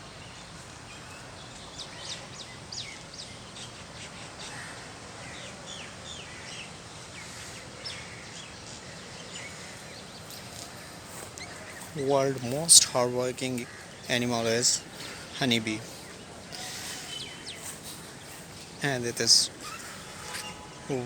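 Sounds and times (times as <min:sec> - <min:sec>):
small birds chirping: 0:00.0 - 0:21.0
steady background hiss: 0:00.0 - 0:21.0.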